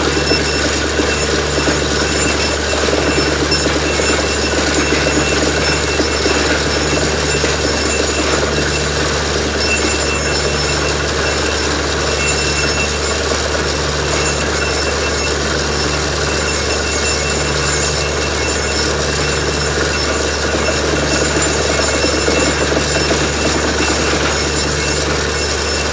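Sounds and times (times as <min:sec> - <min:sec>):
drilling rig engine hum: 0:00.0 - 0:25.9.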